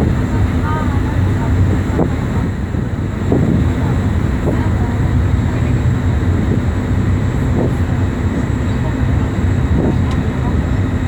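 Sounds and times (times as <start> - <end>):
boat engine droning: 0.0 - 11.0
faint voices: 0.1 - 11.0.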